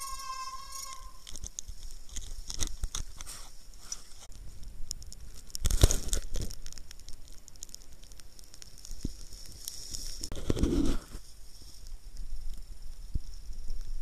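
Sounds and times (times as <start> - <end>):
bike tyres rolling over gravel: 0.0 - 14.0
grit crackling under tyres: 0.0 - 14.0.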